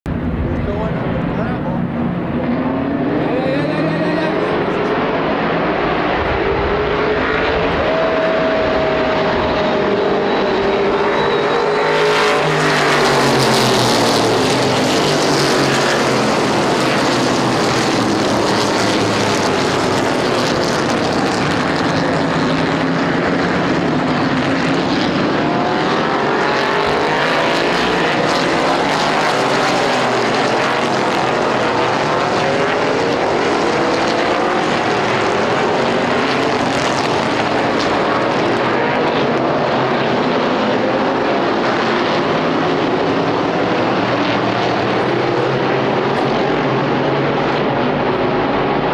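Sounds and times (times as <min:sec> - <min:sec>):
racing car engines revving: 0:00.1 - 0:48.9.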